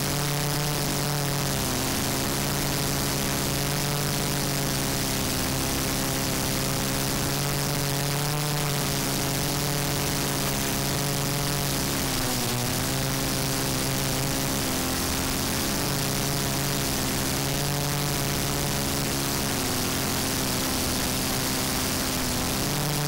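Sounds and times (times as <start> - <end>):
constant hiss: 0.0 - 23.0
quadcopter propellers whirring: 0.0 - 23.0.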